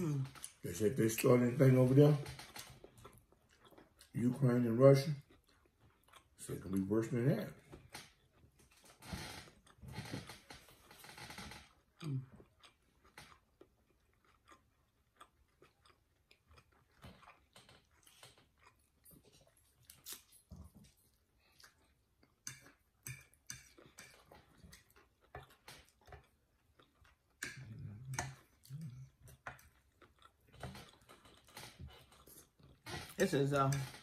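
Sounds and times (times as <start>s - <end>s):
close chewing: 0.0s - 10.0s, 11.7s - 34.0s.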